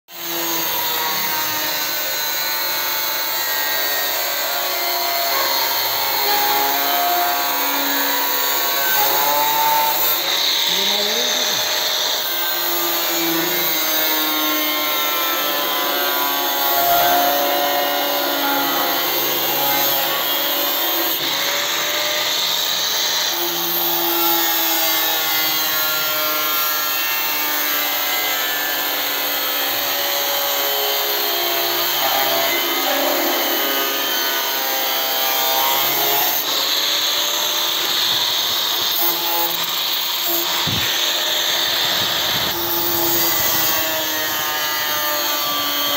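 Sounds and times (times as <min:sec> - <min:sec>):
angle grinder cutting steel: 0:00.1 - 0:45.9.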